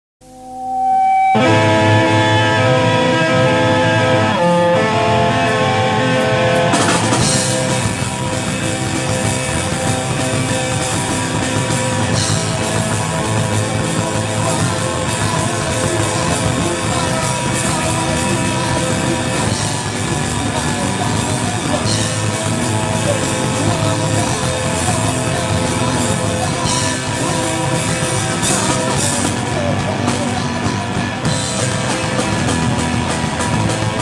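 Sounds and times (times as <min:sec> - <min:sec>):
distorted electric guitar chords: 0:00.2 - 0:34.0
punk rock band playing: 0:00.8 - 0:34.0.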